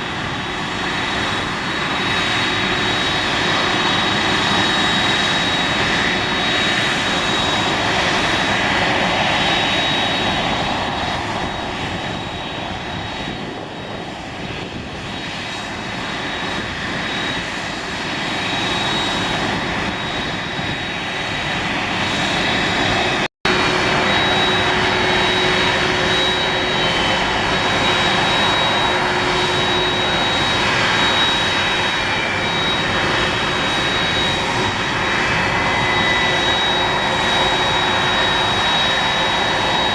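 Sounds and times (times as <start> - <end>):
jet engines rushing with whine: 0.0 - 39.9.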